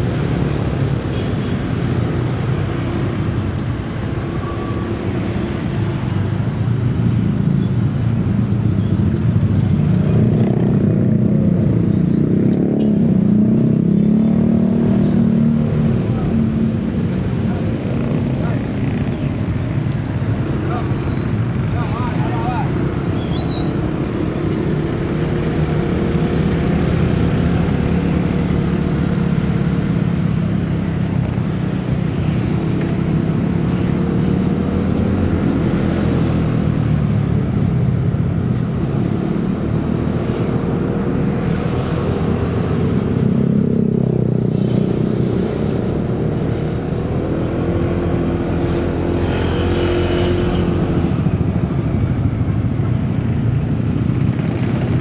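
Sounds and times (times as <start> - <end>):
city traffic noise: 0.0 - 55.0.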